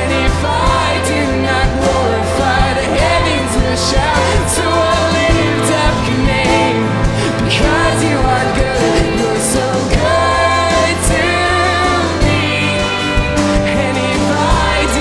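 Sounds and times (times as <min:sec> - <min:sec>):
man singing: 0:00.0 - 0:15.0
worship band playing: 0:00.0 - 0:15.0.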